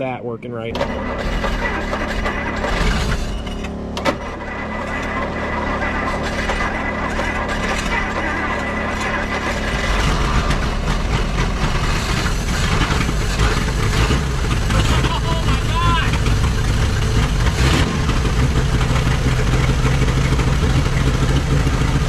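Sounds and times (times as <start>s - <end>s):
car engine cranking and firing: 0.6s - 22.0s.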